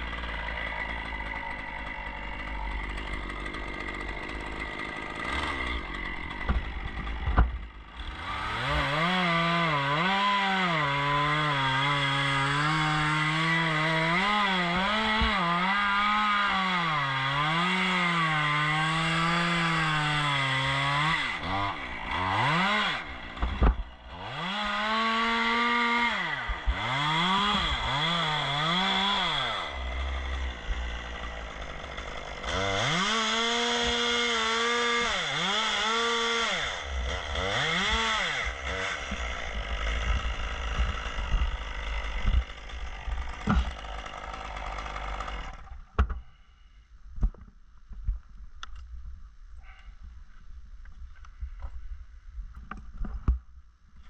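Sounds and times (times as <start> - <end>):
chainsaw revving: 0.0 - 46.3.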